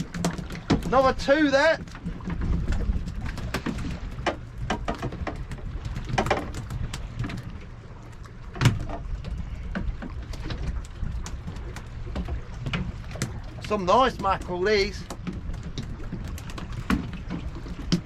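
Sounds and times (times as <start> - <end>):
low steady boat rumble: 0.0 - 18.0.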